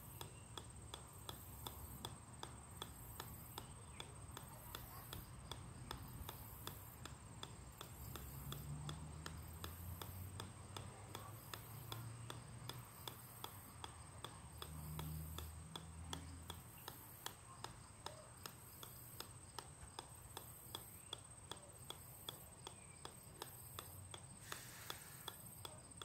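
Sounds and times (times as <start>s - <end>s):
golf ball bouncing on metal: 0.1s - 26.0s.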